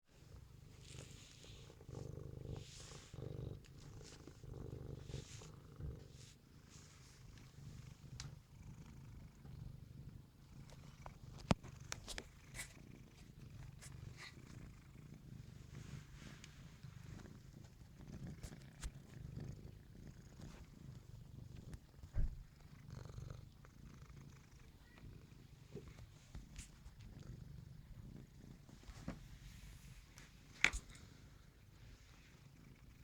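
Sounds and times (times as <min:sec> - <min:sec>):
cat purring: 0:00.1 - 0:33.0.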